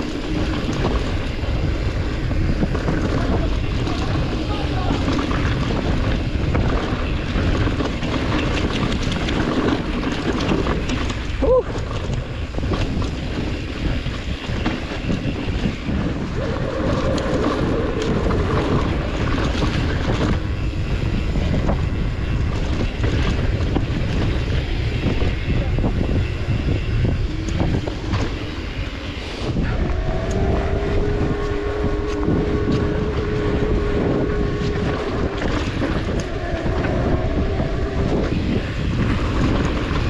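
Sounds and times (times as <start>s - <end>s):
bike rattling: 0.0s - 40.0s
wind buffeting microphone: 0.0s - 40.0s.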